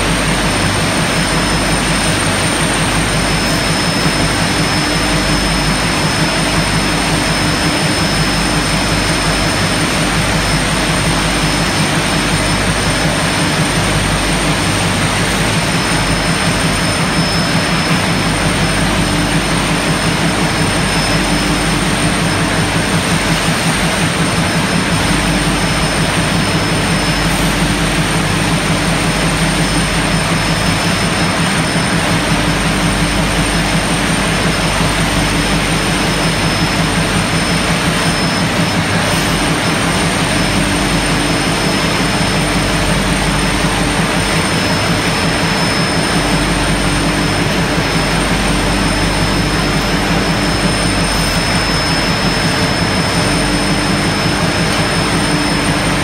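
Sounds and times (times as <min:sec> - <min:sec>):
factory machinery roar: 0:00.0 - 0:56.0
high-pitched machine whines: 0:00.0 - 0:56.0.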